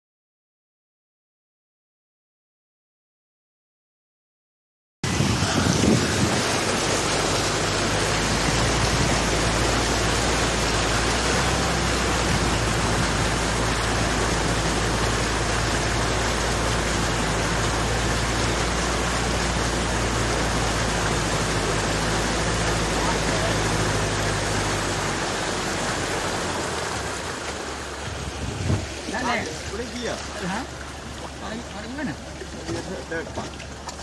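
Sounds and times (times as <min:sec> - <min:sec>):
engine running low: 0:05.0 - 0:34.0
water churning against vehicle: 0:05.0 - 0:34.0.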